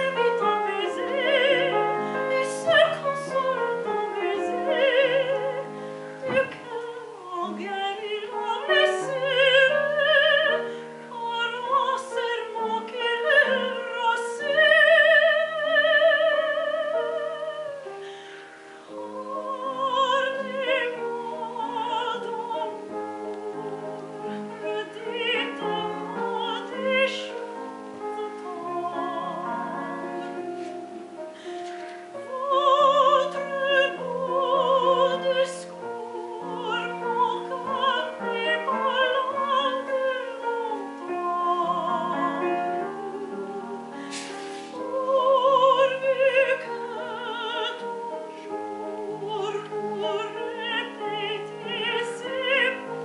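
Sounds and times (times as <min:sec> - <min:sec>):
piano accompaniment: 0:00.0 - 0:53.0
woman singing classical song: 0:00.0 - 0:53.0.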